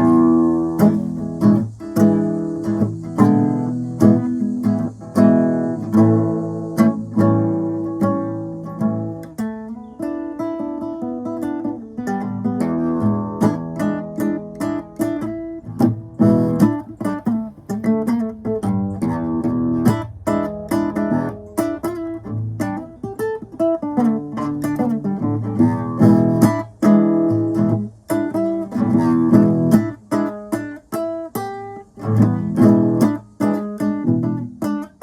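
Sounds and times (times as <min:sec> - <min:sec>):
acoustic guitar playing blues: 0:00.0 - 0:35.0.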